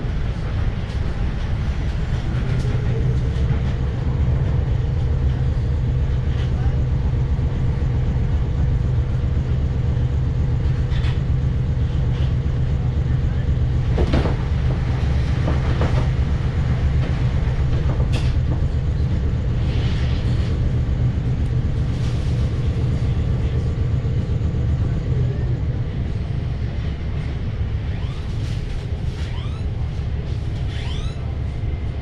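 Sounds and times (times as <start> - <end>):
train rumble inside carriage: 0.0 - 32.0.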